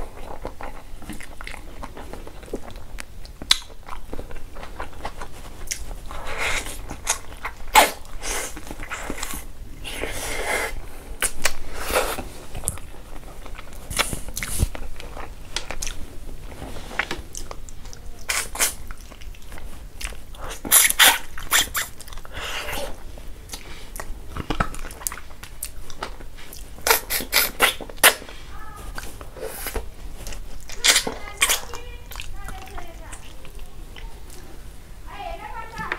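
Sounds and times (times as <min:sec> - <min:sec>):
mouth clicks and smacks: 0:00.0 - 0:16.0, 0:17.0 - 0:34.5
chewing and lip-smacking: 0:00.0 - 0:16.2, 0:16.8 - 0:34.6.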